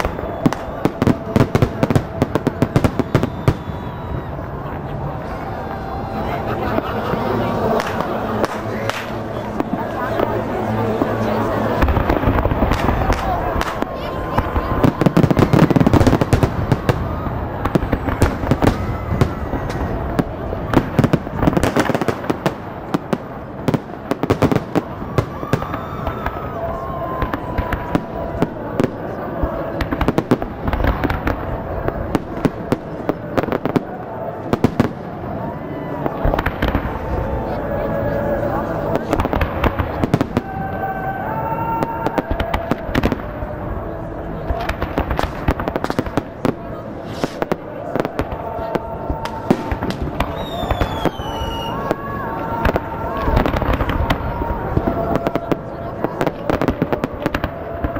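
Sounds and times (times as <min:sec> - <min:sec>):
fireworks bangs: 0:00.0 - 0:57.9
fireworks crackling: 0:00.0 - 0:57.9.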